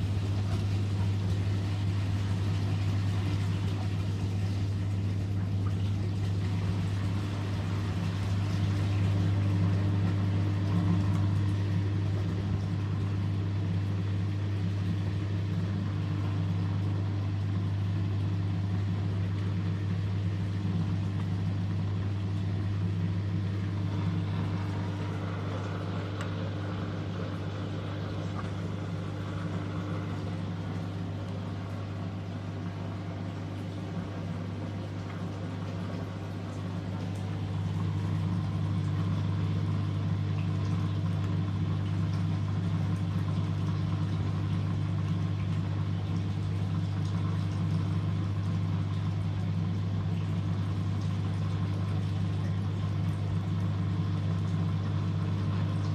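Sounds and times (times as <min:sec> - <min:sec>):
washing machine humming: 0:00.0 - 0:55.9.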